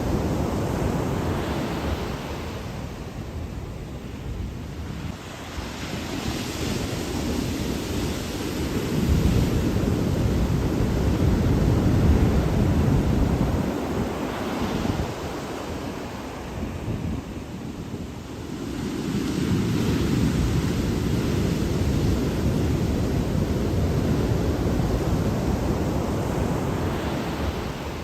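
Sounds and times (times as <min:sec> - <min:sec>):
ocean surf washing in: 0:00.0 - 0:28.0
wind buffeting microphone: 0:00.0 - 0:28.0.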